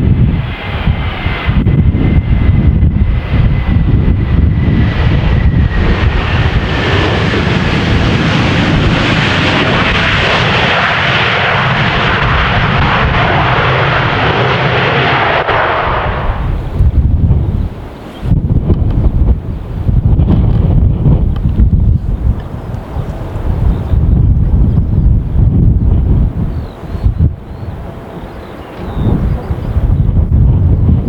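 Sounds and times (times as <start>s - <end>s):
jet airliner passing: 0.0s - 31.0s
wind buffeting microphone: 0.0s - 31.0s.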